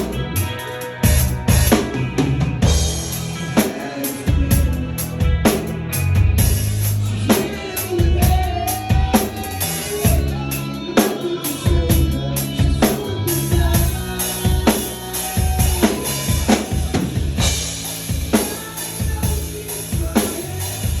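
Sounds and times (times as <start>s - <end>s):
backing track music: 0.0s - 21.0s
drum kit playing: 0.0s - 21.0s.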